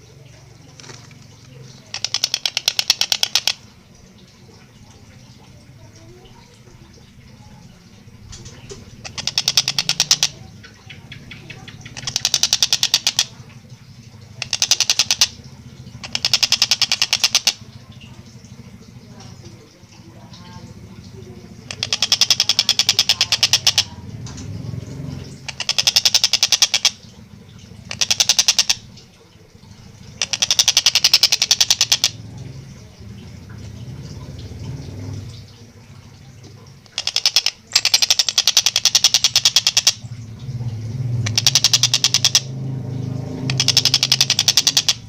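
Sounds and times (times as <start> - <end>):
kingfisher rattling trills: 0.0 - 4.1, 6.1 - 40.4, 41.2 - 45.0.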